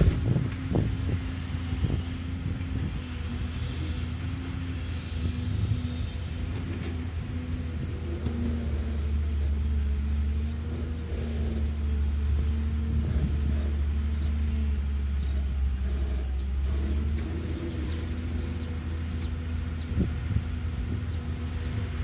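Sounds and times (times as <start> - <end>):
excavator diesel engine droning: 0.0 - 22.0.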